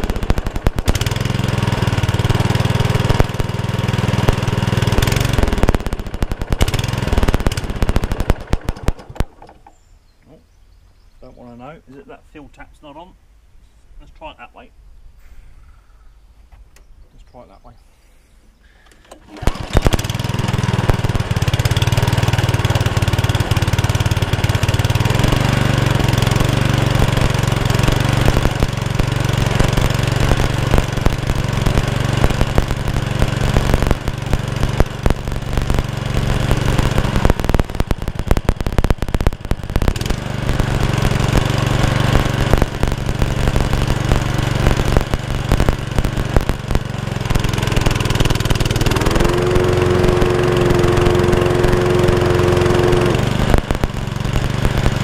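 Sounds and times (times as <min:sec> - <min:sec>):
lawnmower engine running: 0:00.0 - 0:09.8, 0:18.8 - 0:55.0.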